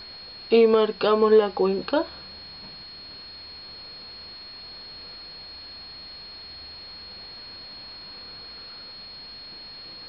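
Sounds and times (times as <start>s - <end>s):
faint low hum: 0.0s - 10.0s
high-pitched whine: 0.0s - 10.0s.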